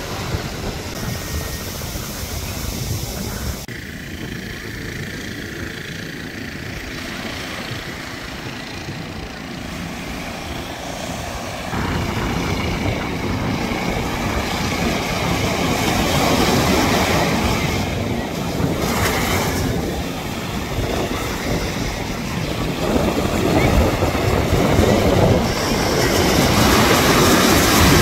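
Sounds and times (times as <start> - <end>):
boat outboard motor running: 0.0 - 28.0
wind: 0.0 - 28.0.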